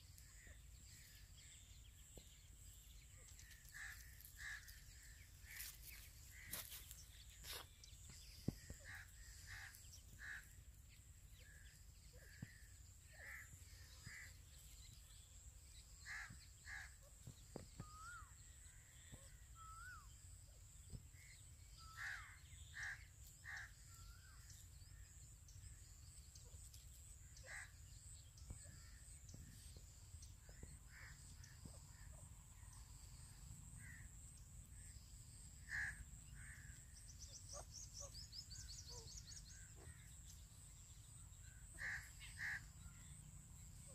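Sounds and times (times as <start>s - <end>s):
francolins calling softly: 0.0s - 43.9s.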